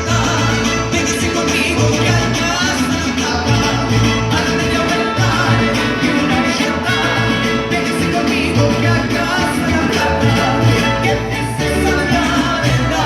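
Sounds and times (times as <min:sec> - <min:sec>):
mariachi band playing: 0:00.0 - 0:13.0.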